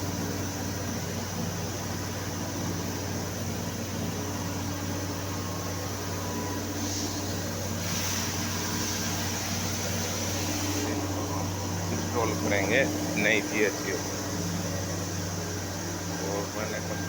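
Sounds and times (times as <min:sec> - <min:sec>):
machinery humming and hissing: 0:00.0 - 0:17.0.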